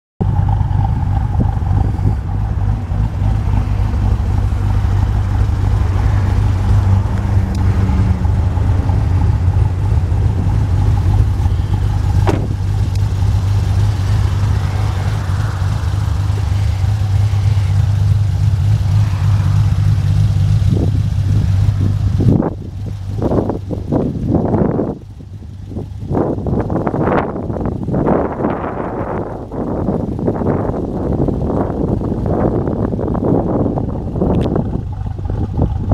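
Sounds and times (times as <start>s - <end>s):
car engine idling: 0.2s - 35.9s.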